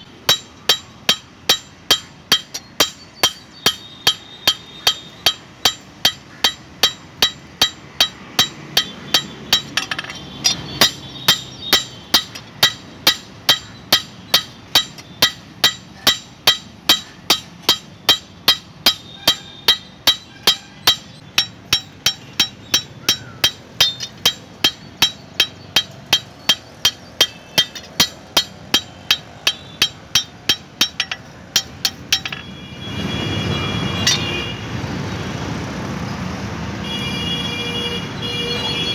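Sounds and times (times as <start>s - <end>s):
hammer on metal ringing: 0.0s - 32.6s.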